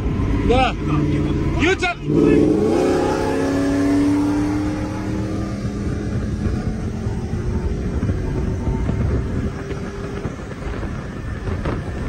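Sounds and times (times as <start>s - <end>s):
road and wind noise: 0.0s - 12.0s
vehicle engine accelerating: 0.0s - 12.0s.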